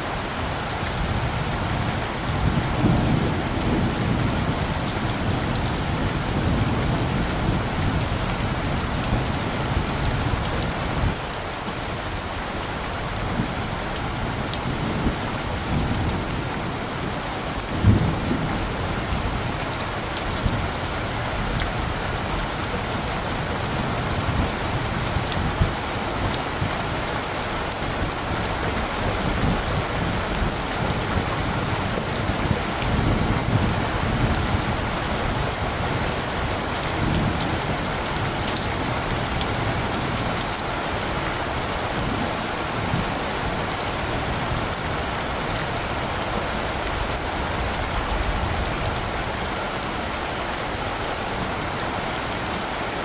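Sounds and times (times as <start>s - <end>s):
steady rain falling: 0.0s - 53.0s
low thunder rumbles: 0.2s - 11.2s, 13.1s - 50.4s.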